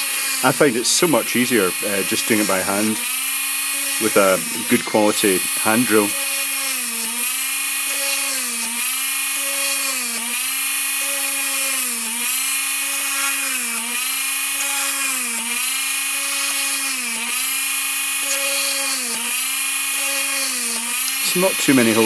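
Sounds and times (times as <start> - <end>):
mini drill high whine: 0.0 - 22.0.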